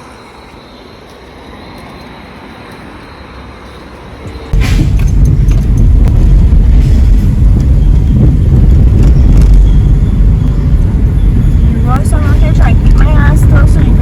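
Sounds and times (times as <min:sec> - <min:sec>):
car road and wind noise: 0:00.0 - 0:14.0.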